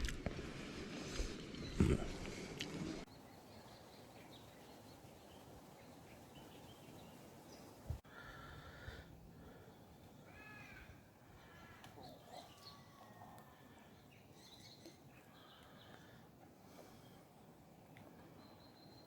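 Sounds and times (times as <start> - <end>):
distant bird calls: 3.1 - 19.0.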